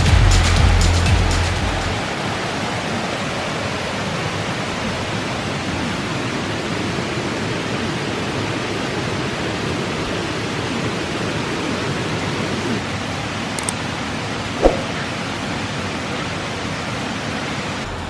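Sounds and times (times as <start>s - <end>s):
stream and waterfall rushing: 1.5s - 18.0s.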